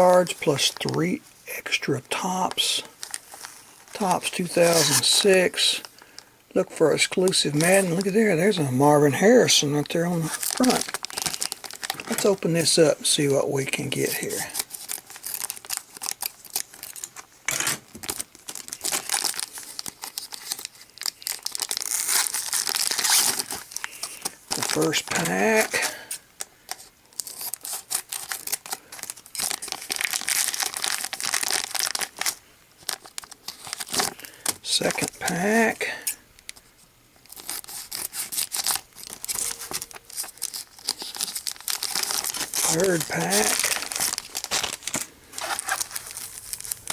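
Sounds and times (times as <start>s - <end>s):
plastic wrapping crinkling and tearing: 0.0s - 46.9s.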